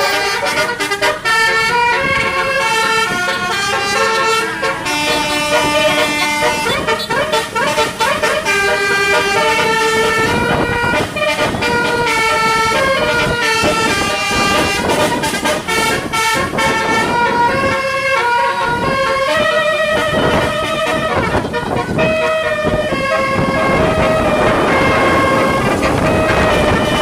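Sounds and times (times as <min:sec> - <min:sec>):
bus musical horn playing tune: 0:00.0 - 0:27.0
traffic noise: 0:00.0 - 0:27.0.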